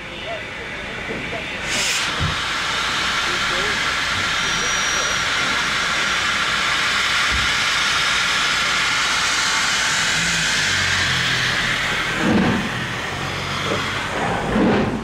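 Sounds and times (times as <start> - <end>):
train running noise: 0.0 - 15.0
rushing hiss of steam: 1.3 - 15.0.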